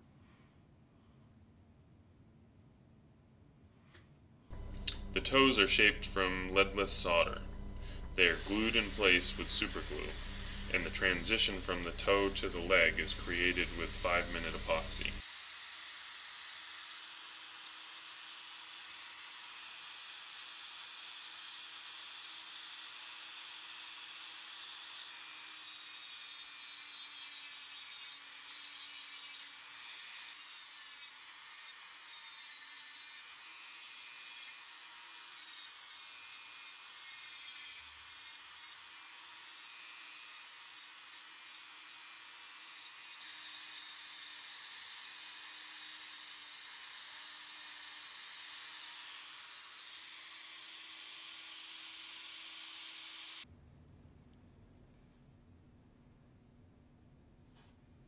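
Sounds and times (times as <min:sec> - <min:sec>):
rotary tool grinding whine: 0:04.5 - 0:53.4.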